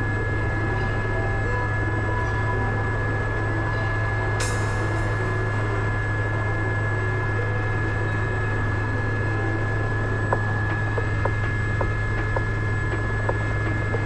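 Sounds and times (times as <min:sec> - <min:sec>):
helicopter rotor and engine drone: 0:00.0 - 0:14.0
steady high whine: 0:00.0 - 0:14.0.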